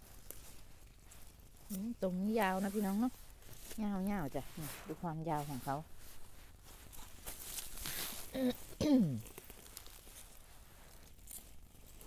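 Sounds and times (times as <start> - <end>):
plant stalks rustling: 0.0 - 12.0.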